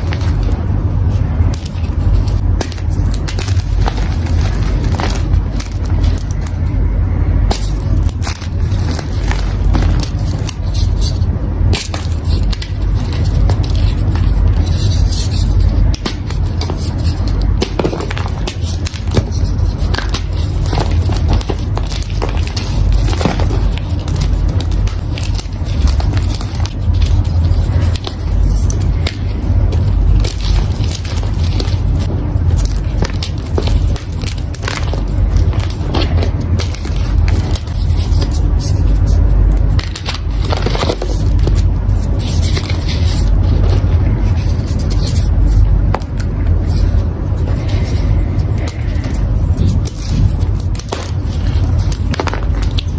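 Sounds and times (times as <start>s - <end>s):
chalk crunching: 0.0s - 52.9s
low hum: 0.0s - 52.9s
steady low rumble: 0.0s - 52.9s.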